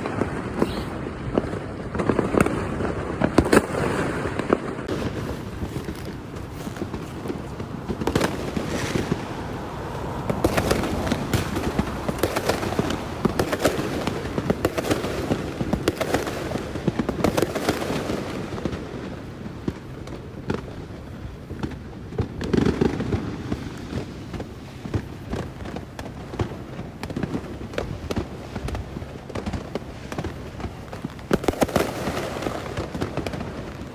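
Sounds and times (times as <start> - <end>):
fireworks crackling and banging: 0.0 - 33.9.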